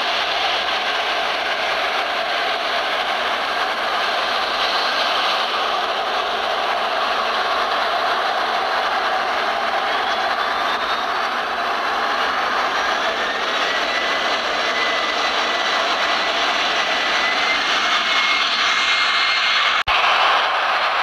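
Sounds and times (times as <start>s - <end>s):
distant jet engines rushing: 0.0s - 21.0s.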